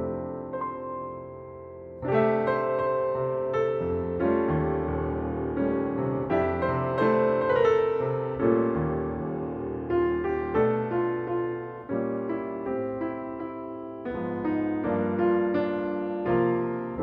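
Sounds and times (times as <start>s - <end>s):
slow gentle piano music: 0.0s - 17.0s.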